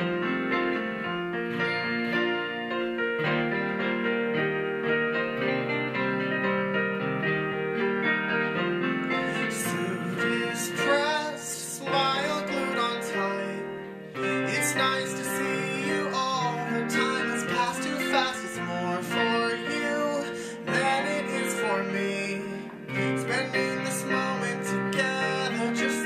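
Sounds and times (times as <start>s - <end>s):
keyboard piano: 0.0s - 26.0s.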